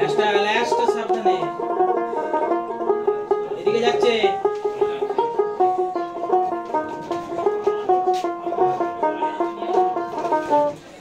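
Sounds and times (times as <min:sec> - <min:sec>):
plucked-string music: 0:00.0 - 0:11.0.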